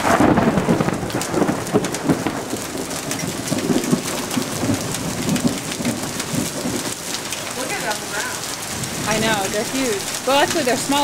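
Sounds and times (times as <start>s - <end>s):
hailstones hitting surfaces: 0.0s - 11.0s
heavy downpour: 0.0s - 11.0s.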